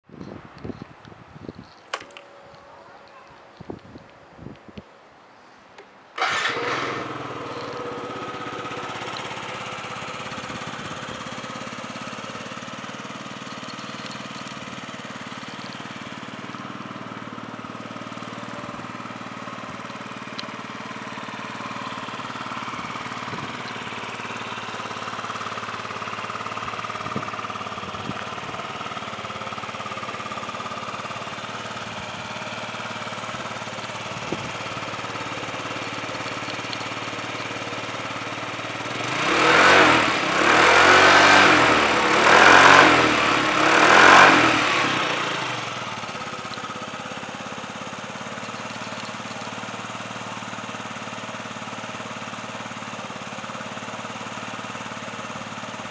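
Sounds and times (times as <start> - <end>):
scooter engine starting and idling: 1.6 - 3.2, 5.8 - 55.9.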